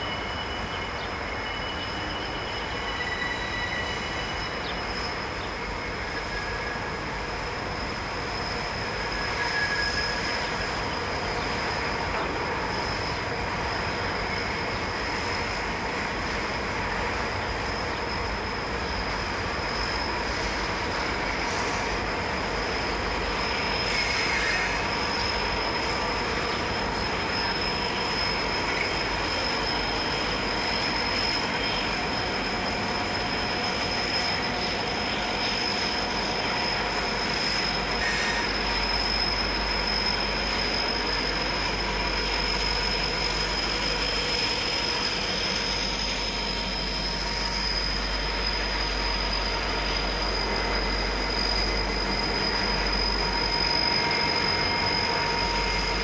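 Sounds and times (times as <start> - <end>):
diesel locomotive engines rumbling: 0.0 - 56.0
rolling train wheels: 0.0 - 56.0
wheel flanges squealing: 0.0 - 56.0.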